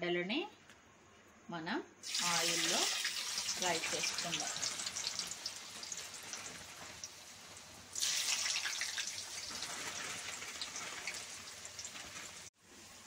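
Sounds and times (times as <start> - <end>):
food sizzling in hot oil: 2.0 - 13.0.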